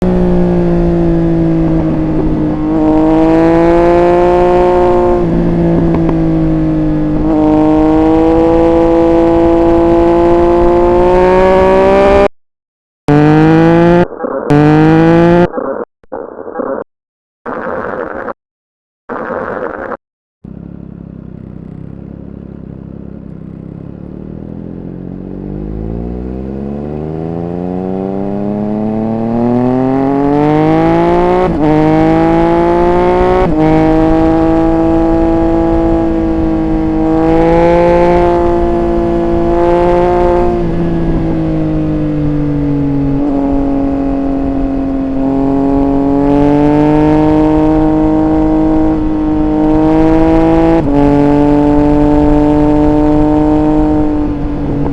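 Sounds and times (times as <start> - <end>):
motorcycle engine accelerating: 0.0 - 12.3, 13.1 - 15.8, 19.1 - 54.9.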